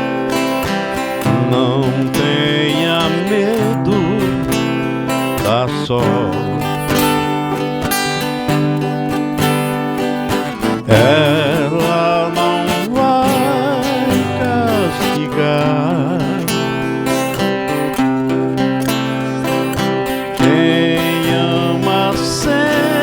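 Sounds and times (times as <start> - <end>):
acoustic guitars strumming: 0.0 - 23.0
wavering lead melody: 0.4 - 23.0.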